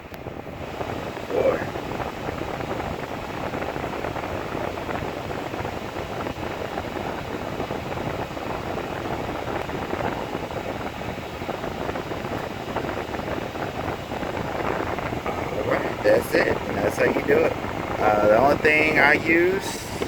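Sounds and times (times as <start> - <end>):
blower fan rushing air: 0.0 - 20.0.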